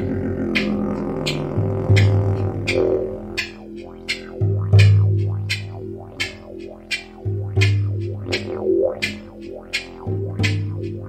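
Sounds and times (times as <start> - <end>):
didgeridoo drone: 0.0 - 11.0
drum beat: 0.6 - 11.0.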